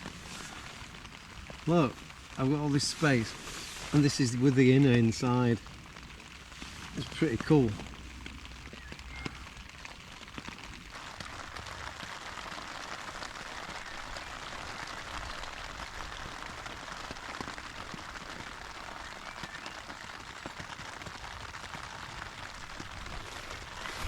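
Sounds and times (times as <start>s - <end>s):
rain pattering on tent fabric: 0.0s - 24.0s.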